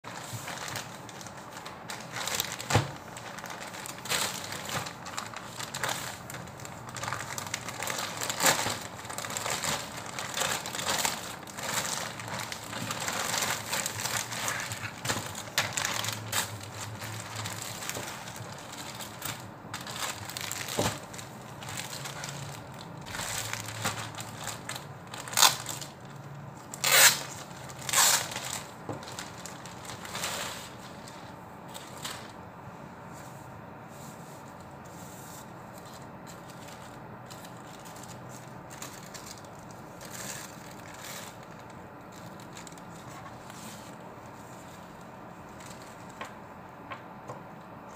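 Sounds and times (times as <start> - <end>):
plastic packaging crinkling: 0.1 - 32.4, 35.7 - 46.4.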